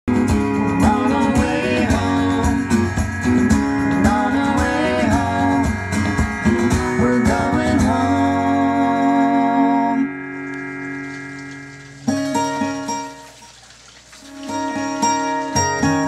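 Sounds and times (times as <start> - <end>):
plucked guitar melody: 0.1 - 16.0.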